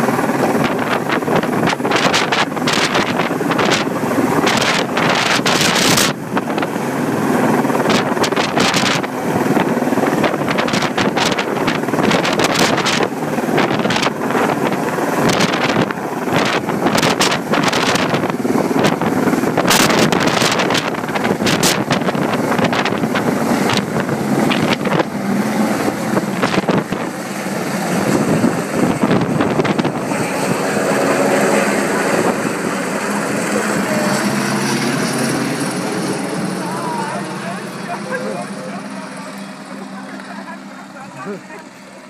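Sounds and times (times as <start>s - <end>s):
wind buffeting microphone: 0.0s - 37.9s
helicopter rotor and engine: 0.0s - 42.0s.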